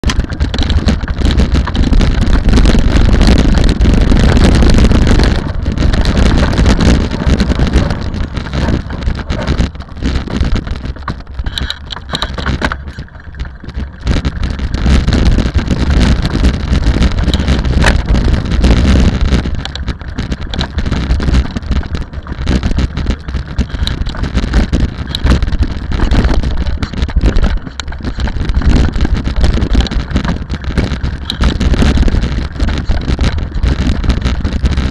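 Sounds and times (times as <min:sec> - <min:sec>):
rally car engine at speed: 0:00.0 - 0:34.9
wind buffeting microphone: 0:00.0 - 0:34.9.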